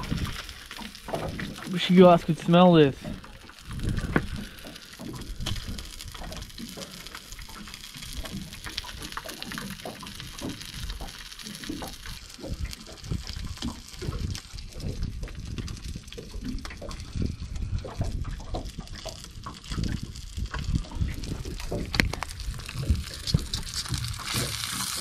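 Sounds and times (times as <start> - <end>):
water lapping against metal hull: 0.0 - 25.0.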